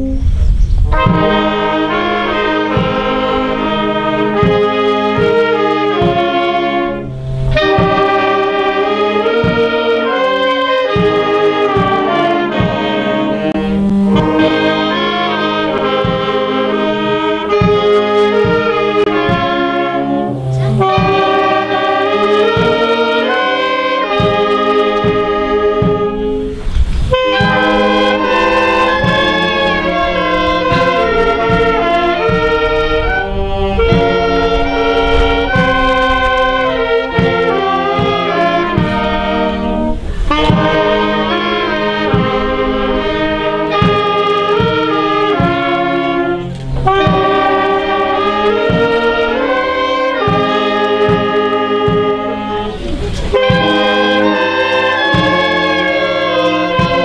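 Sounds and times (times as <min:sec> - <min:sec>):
brass band playing a hymn: 0:00.0 - 0:57.0.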